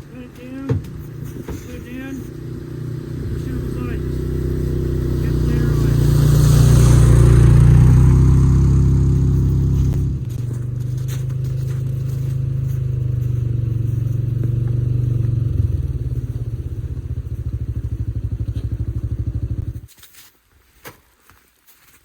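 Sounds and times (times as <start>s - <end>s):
atv engine idling: 0.0s - 19.9s.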